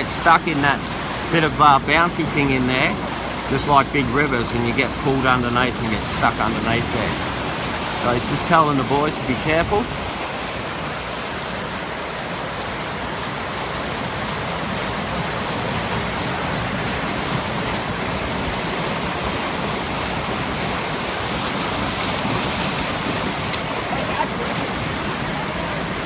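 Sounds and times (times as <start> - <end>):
fast-flowing water rushing: 0.0 - 26.0.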